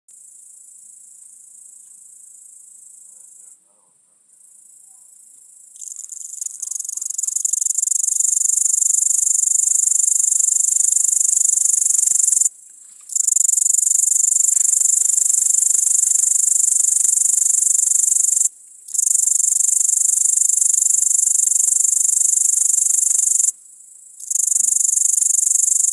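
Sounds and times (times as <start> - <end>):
bush-cricket stridulating: 0.1 - 25.9.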